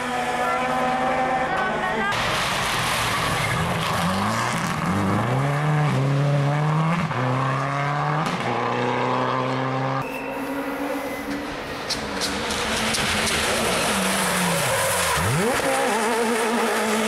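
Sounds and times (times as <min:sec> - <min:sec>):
rally car engine accelerating: 0:00.0 - 0:10.0, 0:12.1 - 0:17.0.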